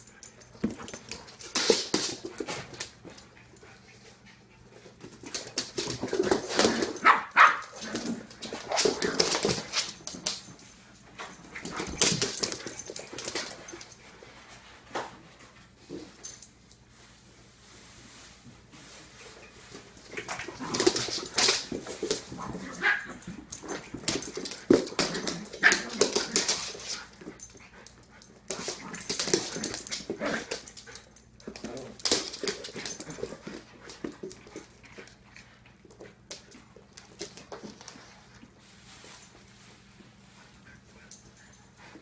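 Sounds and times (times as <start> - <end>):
dogs scuffling on wood floor: 0.0 - 42.0.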